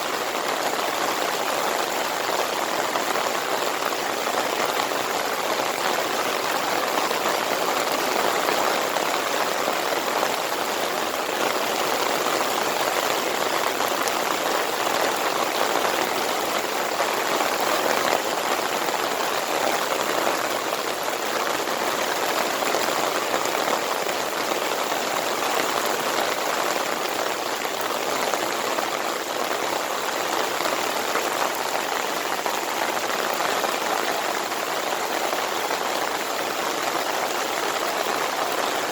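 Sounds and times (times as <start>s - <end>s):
rain pouring: 0.0s - 38.9s.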